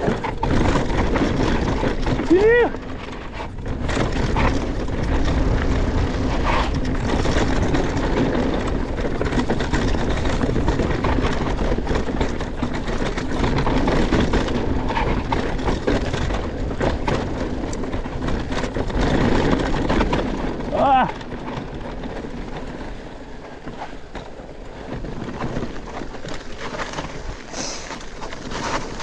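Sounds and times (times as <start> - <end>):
bike rattling over rocks: 0.0 - 29.0
tyre and wind rush: 0.0 - 29.0.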